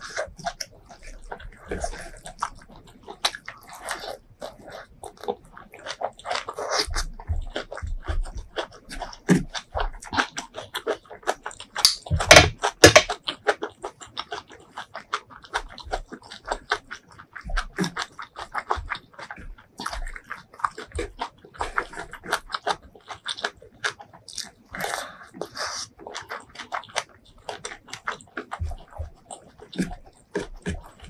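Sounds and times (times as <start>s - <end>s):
wet chewing and lip smacking: 0.0s - 31.0s.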